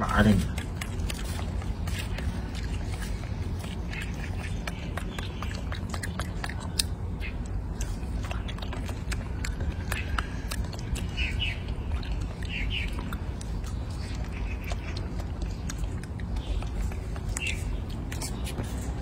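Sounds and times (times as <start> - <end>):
monkey chewing raw vegetable: 0.0 - 19.0.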